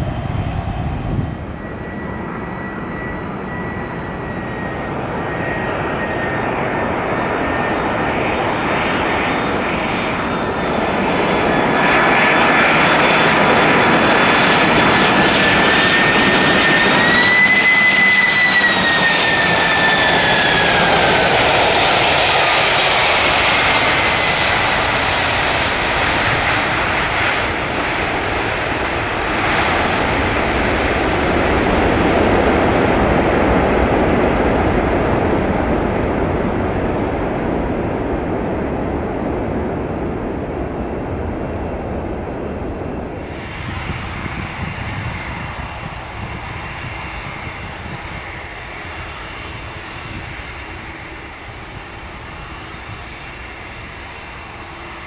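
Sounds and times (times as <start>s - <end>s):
jet engines rushing and whining: 0.0s - 55.0s.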